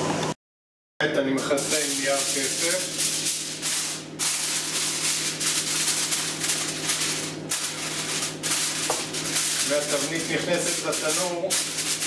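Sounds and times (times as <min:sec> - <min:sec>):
aluminium foil crinkling: 0:01.5 - 0:12.0.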